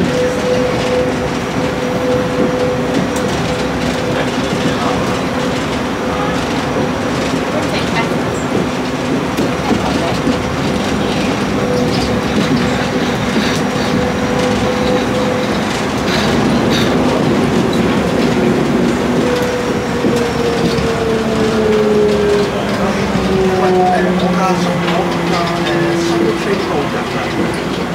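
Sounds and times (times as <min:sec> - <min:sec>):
train drive hum: 0:00.0 - 0:27.9
train interior rumble: 0:00.0 - 0:27.9.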